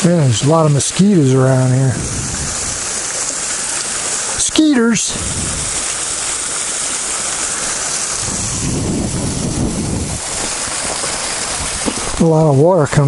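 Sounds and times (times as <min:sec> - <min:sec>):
waterfall splashing on stones: 0:00.0 - 0:13.0.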